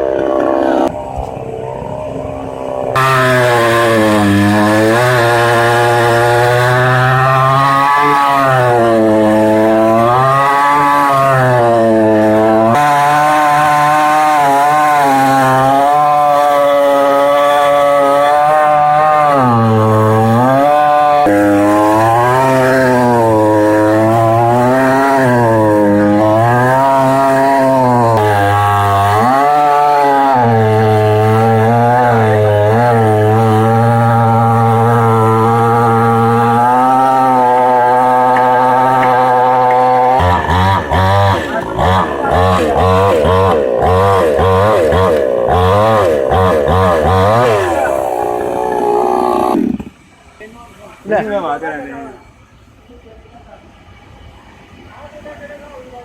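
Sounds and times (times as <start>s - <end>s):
chainsaw cutting wood: 0.0s - 1.4s, 2.8s - 50.0s.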